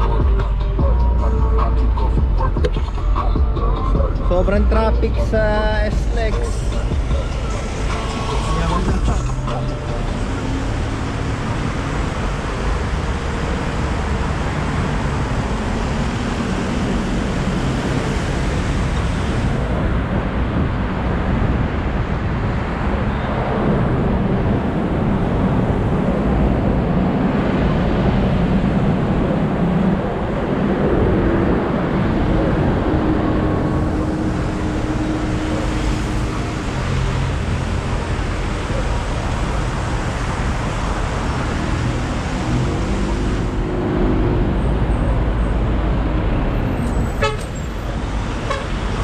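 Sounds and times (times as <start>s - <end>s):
vehicle road rumble: 0.0s - 49.0s.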